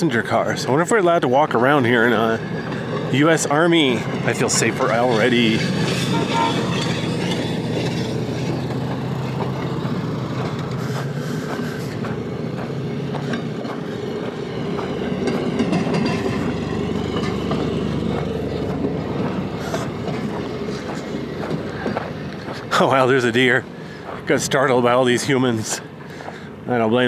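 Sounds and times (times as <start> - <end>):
small engines running: 0.0 - 27.0
wheels clicking over rail joints: 0.0 - 27.0.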